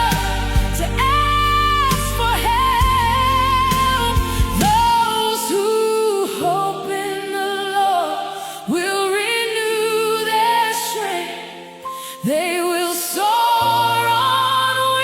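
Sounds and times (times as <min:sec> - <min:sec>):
worship music: 0:00.0 - 0:15.0.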